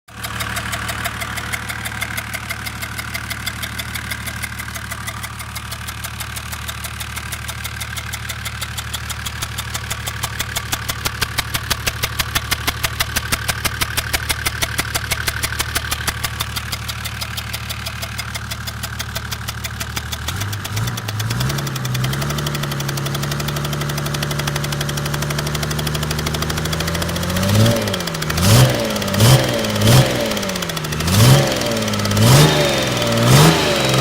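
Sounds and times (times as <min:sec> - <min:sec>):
diesel engine running: 0:00.1 - 0:34.0
rhythmic engine tapping: 0:00.1 - 0:34.0.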